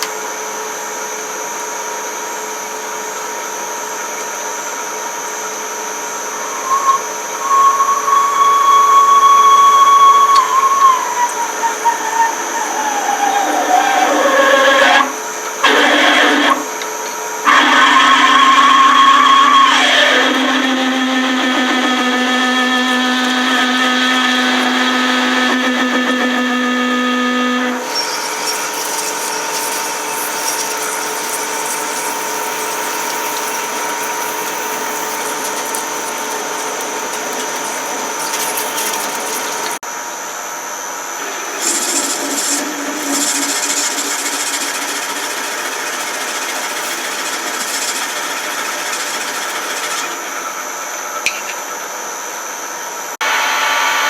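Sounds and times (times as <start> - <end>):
machine tool motor whining: 6.2 - 39.9, 41.1 - 52.2
metal scraping cut: 6.3 - 39.8, 41.1 - 51.9.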